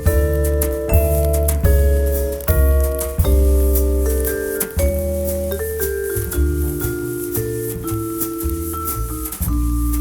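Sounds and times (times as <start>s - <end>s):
bass line: 0.0s - 10.0s
vibraphone chords: 0.0s - 10.0s.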